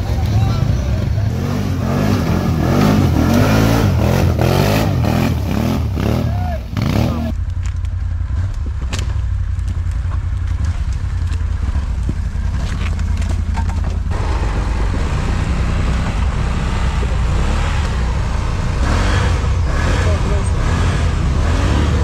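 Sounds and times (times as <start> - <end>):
atv engine running under load: 0.0 - 22.0.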